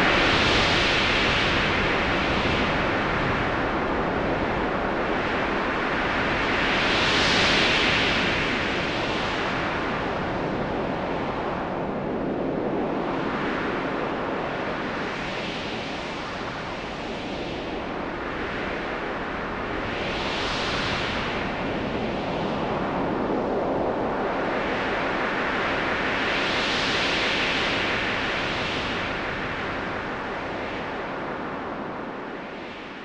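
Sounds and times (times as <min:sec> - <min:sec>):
gusting wind: 0:00.0 - 0:33.0.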